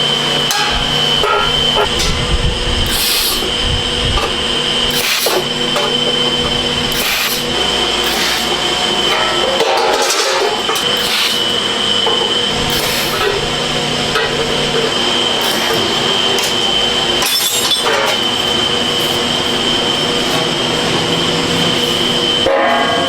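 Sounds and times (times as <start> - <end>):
factory machinery whine: 0.0 - 23.0.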